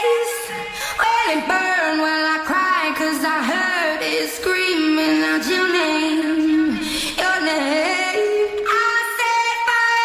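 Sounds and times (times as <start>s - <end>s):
sped-up pop song: 0.0s - 10.0s.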